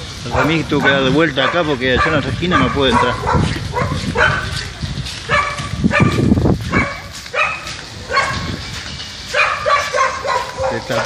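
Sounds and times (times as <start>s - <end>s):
dog barking: 0.2s - 4.6s, 5.3s - 8.5s, 9.3s - 11.0s.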